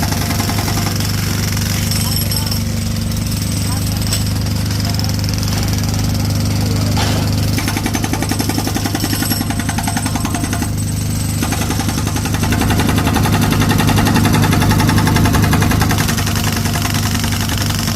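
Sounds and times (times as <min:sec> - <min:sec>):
engine running: 0:00.0 - 0:17.9.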